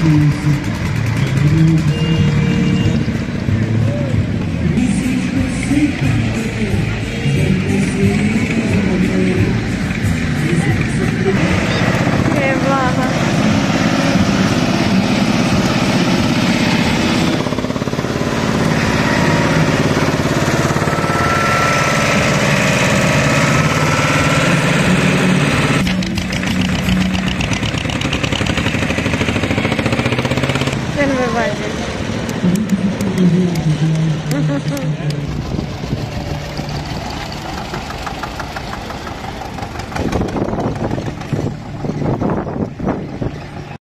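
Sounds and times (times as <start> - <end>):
tractor engine running: 0.0 - 43.8.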